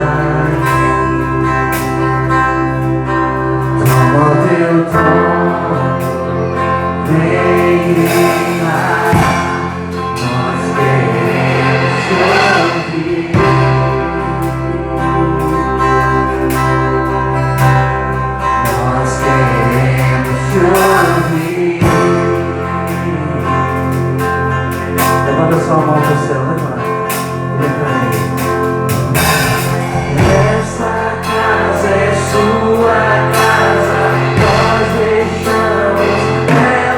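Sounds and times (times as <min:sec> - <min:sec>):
gospel singing: 0:00.0 - 0:36.9
instrumental accompaniment: 0:00.0 - 0:36.9
low bass: 0:00.0 - 0:36.9.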